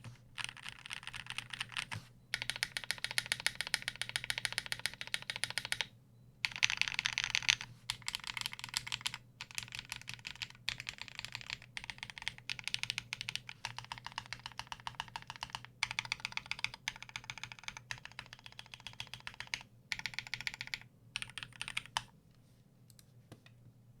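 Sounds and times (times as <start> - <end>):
mechanical keyboard typing: 0.4 - 22.1.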